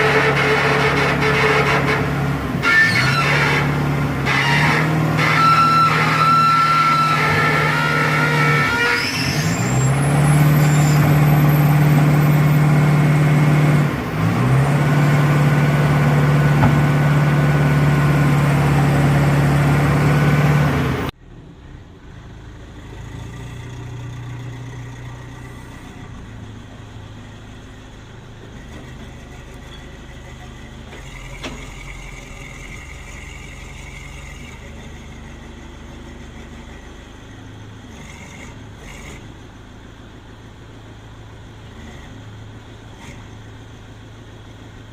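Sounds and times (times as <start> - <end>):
heavy machine engine droning: 0.0 - 44.9.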